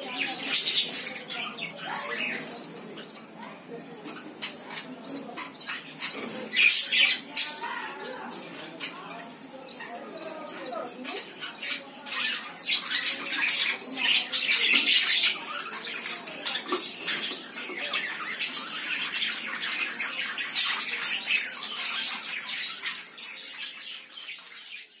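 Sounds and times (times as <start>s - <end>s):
budgerigars chirping and squawking: 0.0s - 25.0s.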